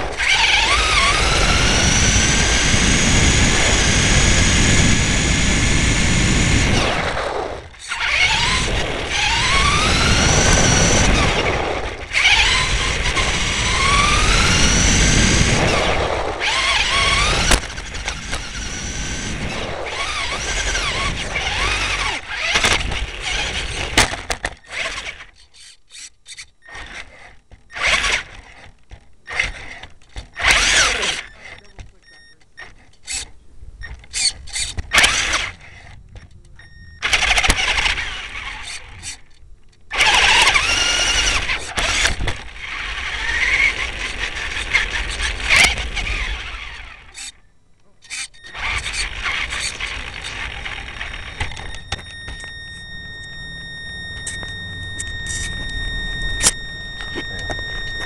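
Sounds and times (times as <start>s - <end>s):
rc car motor whine: 0.0s - 58.0s.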